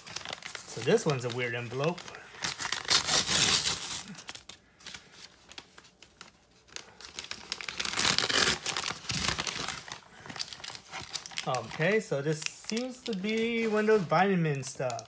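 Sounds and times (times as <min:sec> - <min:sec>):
paper envelope tearing and rustling: 0:00.0 - 0:15.0.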